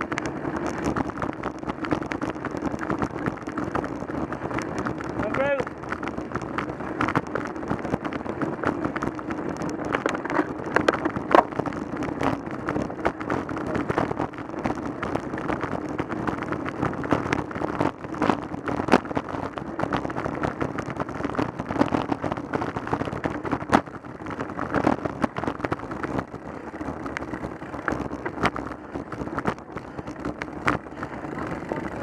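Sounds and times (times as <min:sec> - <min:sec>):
bike knocks and rattles: 0:00.0 - 0:32.0
tyre and wind rumble: 0:00.0 - 0:32.0.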